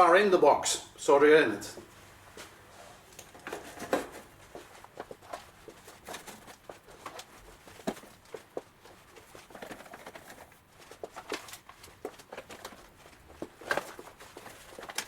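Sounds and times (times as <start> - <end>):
soft rustling: 1.9 - 15.0.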